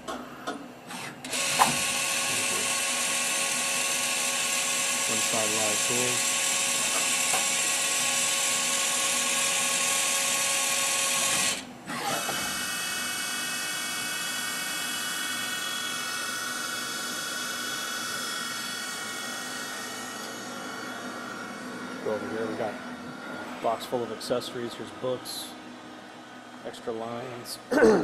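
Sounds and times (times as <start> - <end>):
lathe high-pitched whine: 1.0 - 25.5.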